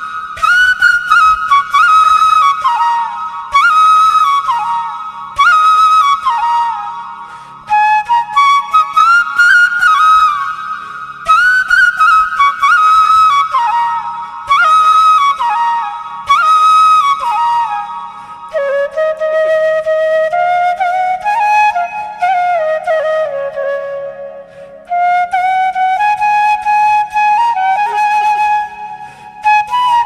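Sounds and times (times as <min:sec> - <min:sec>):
flute melody: 0:00.0 - 0:30.0.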